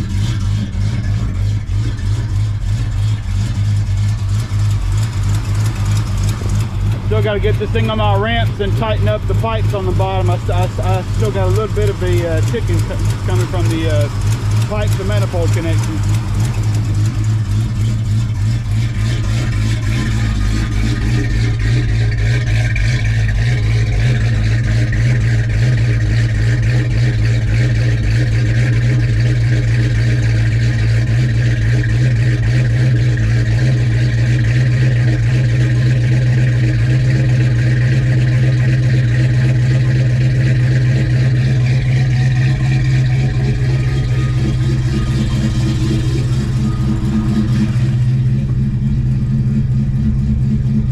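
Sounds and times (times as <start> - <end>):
car engine idling: 0.0 - 50.9
exhaust leak ticking: 0.0 - 50.9.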